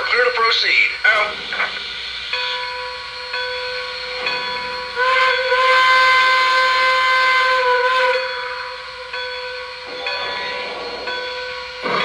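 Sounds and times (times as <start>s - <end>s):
steam hissing: 0.0s - 12.0s
quilling steam whistle: 1.9s - 12.0s.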